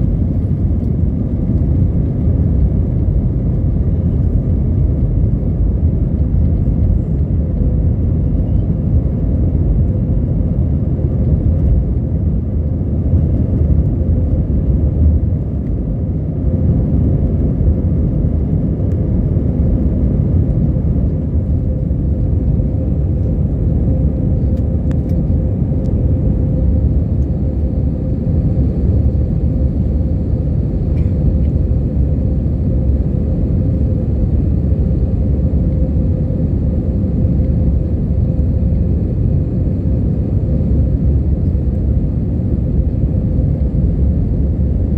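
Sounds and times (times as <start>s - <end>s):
airliner engines rumbling in cabin: 0.0s - 44.9s
steady hum: 0.0s - 44.9s.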